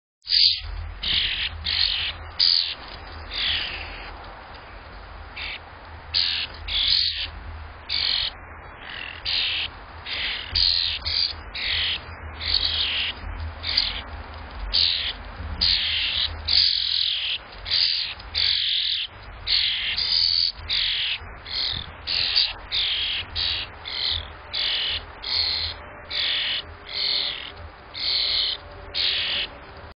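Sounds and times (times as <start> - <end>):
starlings giving raspy calls: 0.3 - 4.2, 5.4 - 29.6.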